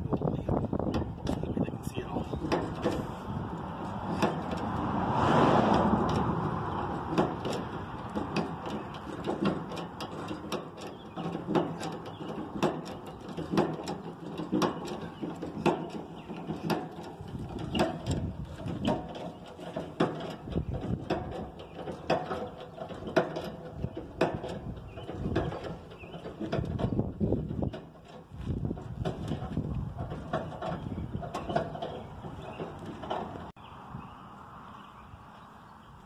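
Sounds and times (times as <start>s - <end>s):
hydraulic jack clacking: 0.0s - 33.6s.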